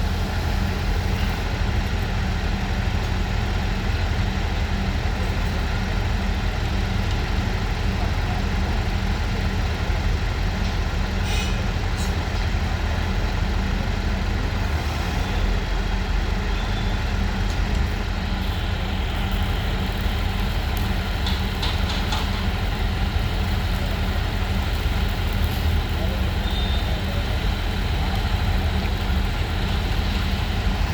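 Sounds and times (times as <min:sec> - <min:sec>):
heavy engine idling: 0:00.0 - 0:30.9.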